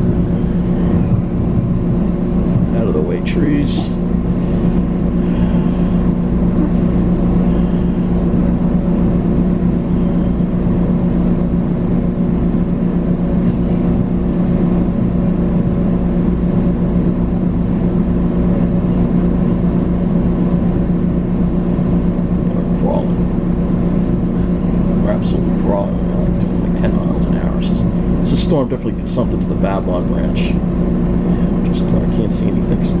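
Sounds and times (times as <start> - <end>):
electric train hum and rumble: 0.0 - 33.0.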